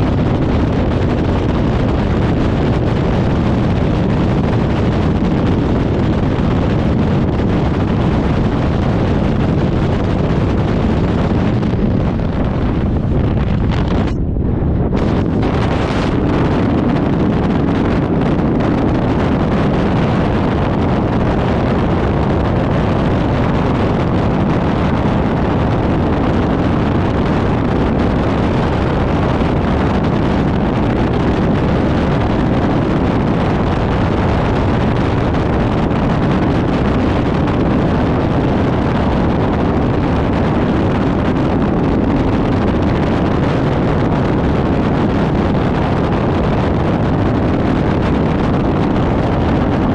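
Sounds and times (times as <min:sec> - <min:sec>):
outboard motor at high throttle: 0:00.0 - 0:49.9
wind rushing on microphone: 0:00.0 - 0:49.9.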